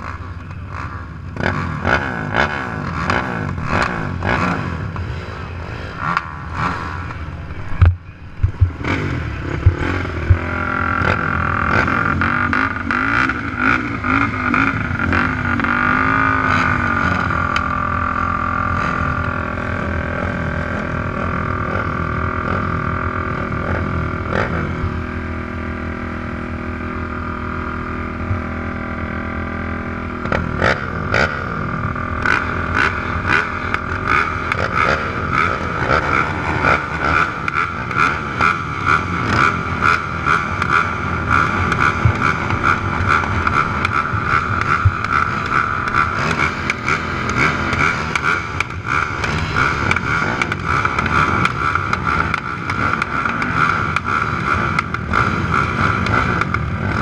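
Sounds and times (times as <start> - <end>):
quad engines idling: 0.0 - 57.0.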